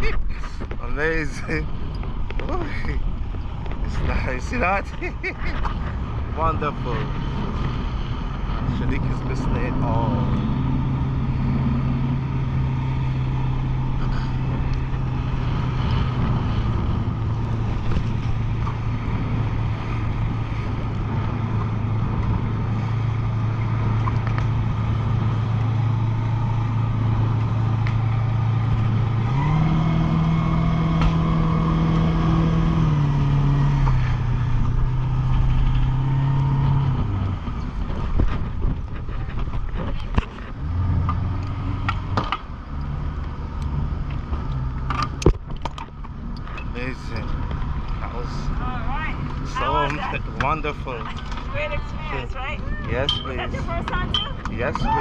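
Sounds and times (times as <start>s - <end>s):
low hum: 0.0s - 55.0s
motorboat engine running: 0.0s - 55.0s.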